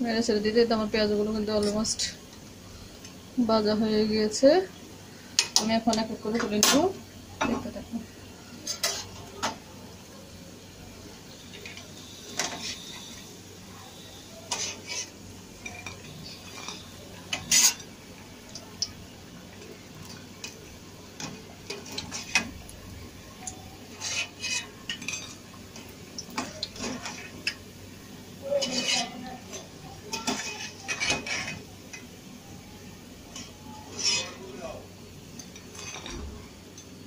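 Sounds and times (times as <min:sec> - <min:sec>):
frying oil hissing: 0:00.0 - 0:37.0.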